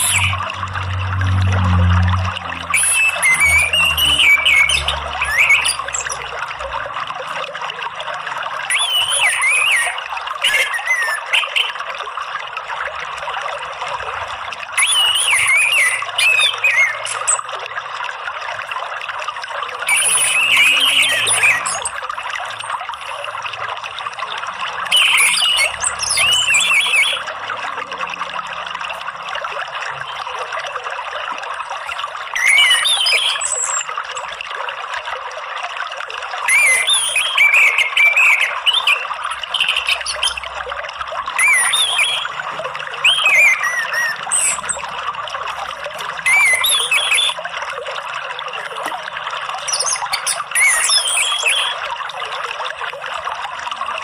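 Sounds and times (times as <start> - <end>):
trickling water: 0.0 - 54.0.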